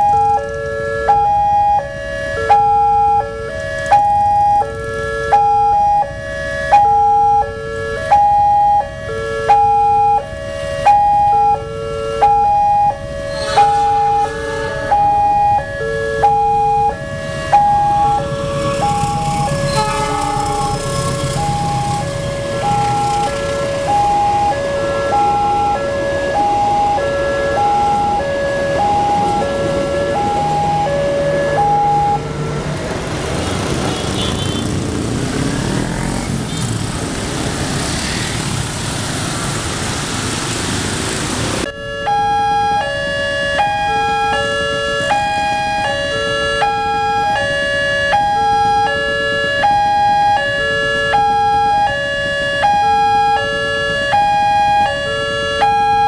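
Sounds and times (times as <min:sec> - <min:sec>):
level crossing warning alarm: 0:00.0 - 0:33.1, 0:41.6 - 0:56.0
motorcycle engines: 0:00.0 - 0:56.0
road traffic: 0:00.0 - 0:56.0.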